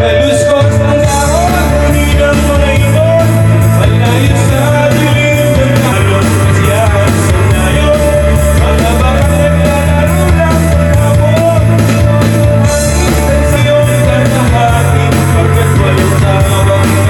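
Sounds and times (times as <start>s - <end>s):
rock song over speaker: 0.0s - 17.0s.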